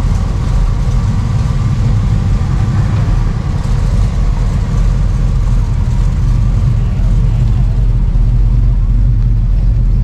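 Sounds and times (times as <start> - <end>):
car engines rumbling: 0.0 - 10.0.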